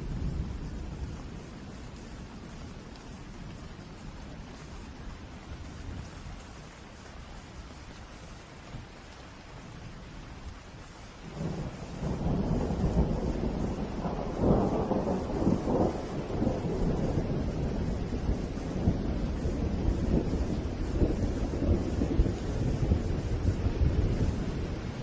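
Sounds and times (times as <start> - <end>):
thunder rumbling: 0.0 - 7.6, 11.2 - 25.0
steady rain: 0.0 - 25.0.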